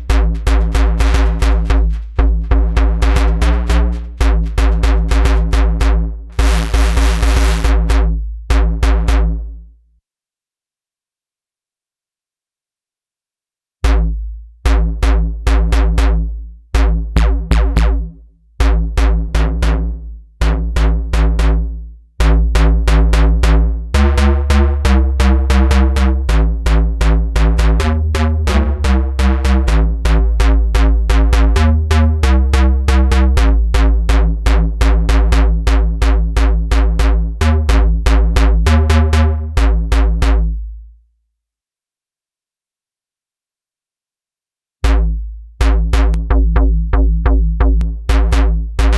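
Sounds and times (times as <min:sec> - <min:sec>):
synthesizer bass line: 0:00.0 - 0:09.6, 0:13.9 - 0:40.9, 0:44.8 - 0:48.9.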